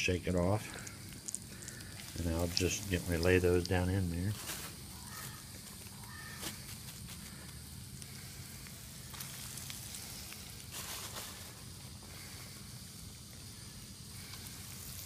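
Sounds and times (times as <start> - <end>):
steaks sizzling in oil: 0.8 - 15.0.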